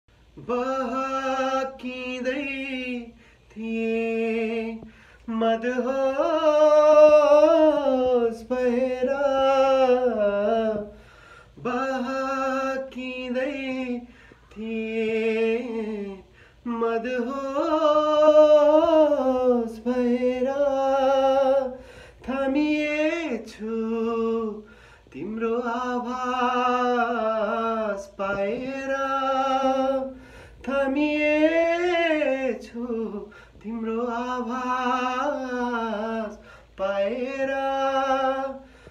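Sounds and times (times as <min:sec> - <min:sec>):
man singing unaccompanied: 0:00.1 - 0:38.9.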